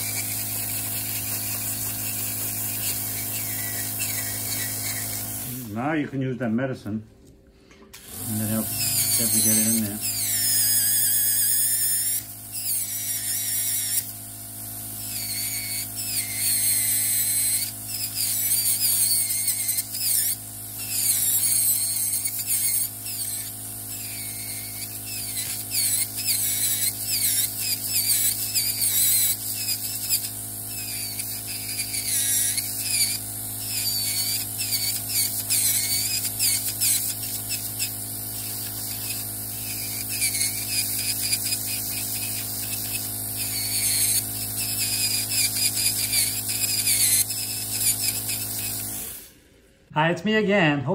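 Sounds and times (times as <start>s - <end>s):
electric nail drill grinding: 0.0s - 5.7s, 8.0s - 49.4s.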